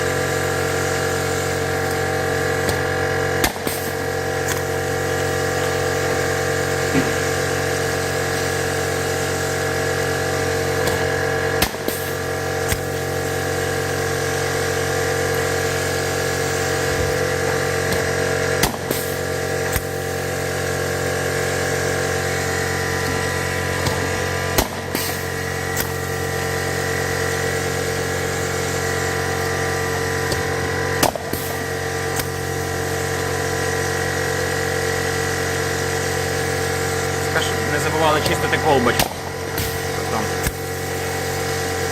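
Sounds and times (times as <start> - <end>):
steady mechanical hum: 0.0 - 41.9.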